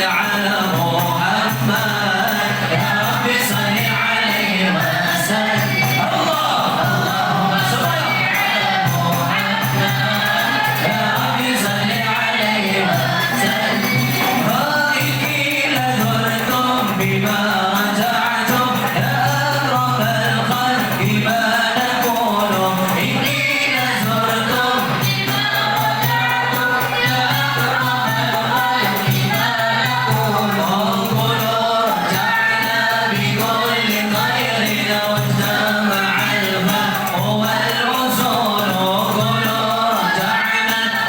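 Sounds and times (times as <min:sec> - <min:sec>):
group of voices singing: 0:00.0 - 0:41.0
hand percussion beat: 0:00.0 - 0:41.0.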